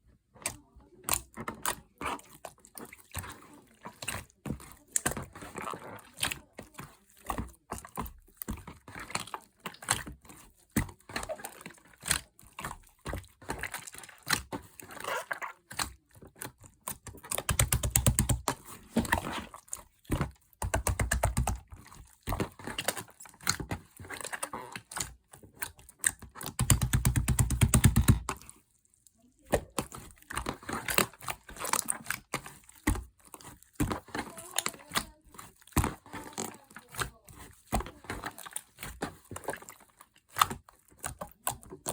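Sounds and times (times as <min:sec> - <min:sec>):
fast dense slime squelching: 0:00.0 - 0:41.9.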